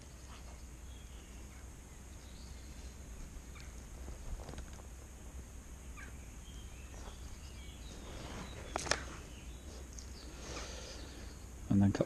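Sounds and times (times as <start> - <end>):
faint bird chirps: 0.0 - 3.9, 5.8 - 11.8.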